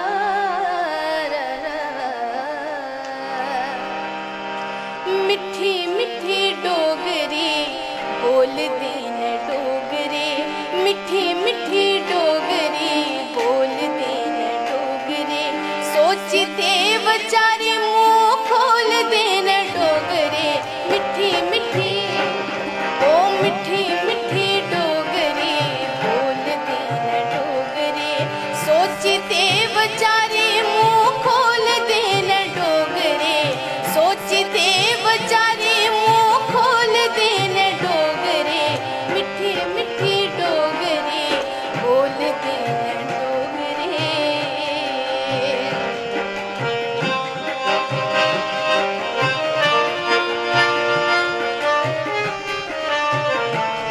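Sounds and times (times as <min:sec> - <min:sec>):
harmonium: 0:00.0 - 0:53.9.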